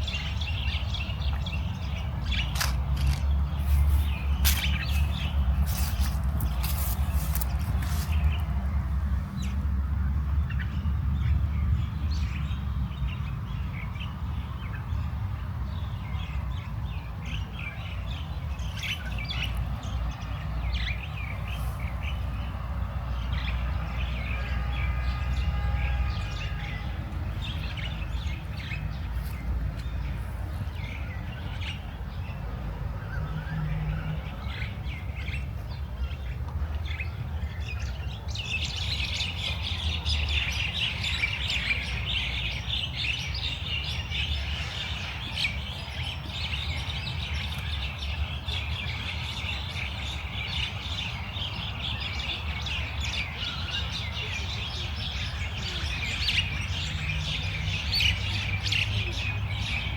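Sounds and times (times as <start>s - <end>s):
small songbirds chirping: 0.0s - 59.9s.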